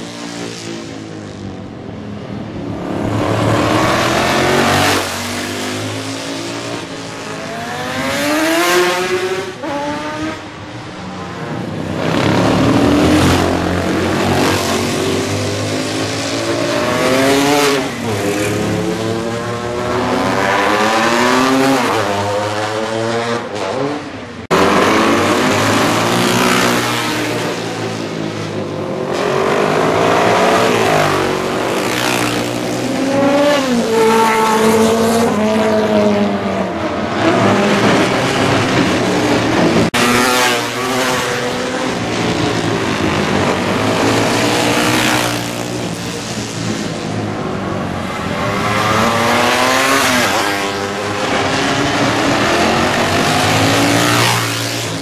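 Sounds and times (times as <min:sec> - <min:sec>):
racing motorcycles passing: 0:00.0 - 0:55.0.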